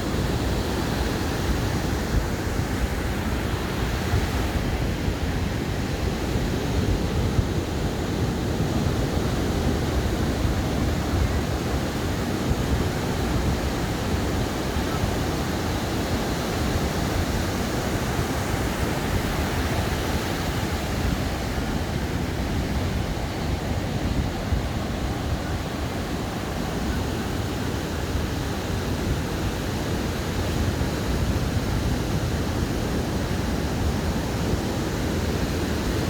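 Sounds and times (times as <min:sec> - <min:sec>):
waves washing on beach: 0:00.0 - 0:36.0.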